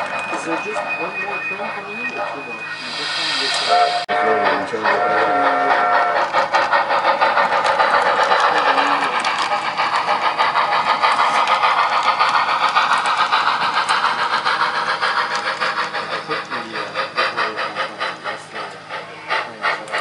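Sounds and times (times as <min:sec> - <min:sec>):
continuous steam hiss: 0:00.0 - 0:20.0
steam locomotive chuffing: 0:00.0 - 0:20.0.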